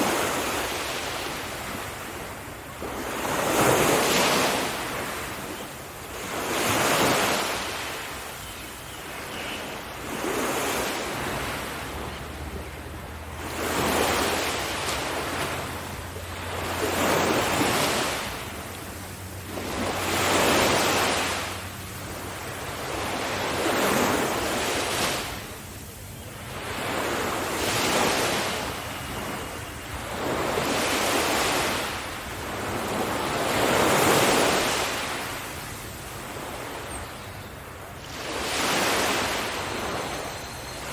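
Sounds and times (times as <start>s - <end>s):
sea waves breaking on beach: 0.0s - 40.9s.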